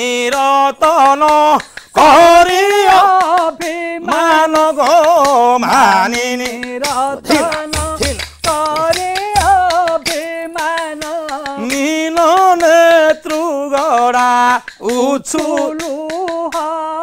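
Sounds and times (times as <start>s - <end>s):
man singing high wavering melody: 0.0s - 17.0s
wooden clappers clicking: 0.0s - 17.0s.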